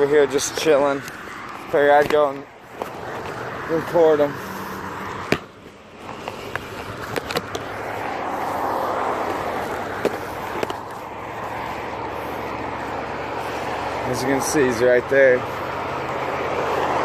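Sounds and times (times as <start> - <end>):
road traffic: 0.0 - 17.0
vehicle passing: 0.0 - 17.0.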